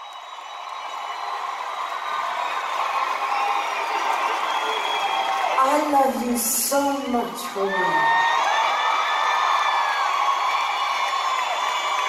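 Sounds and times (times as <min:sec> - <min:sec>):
concert crowd cheering and screaming: 0:00.0 - 0:12.0.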